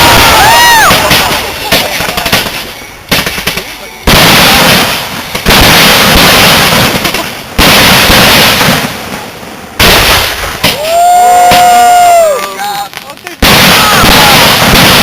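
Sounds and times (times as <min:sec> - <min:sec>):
firework shells bursting: 0:00.0 - 0:15.0
hissing crackling firework wash: 0:00.0 - 0:15.0.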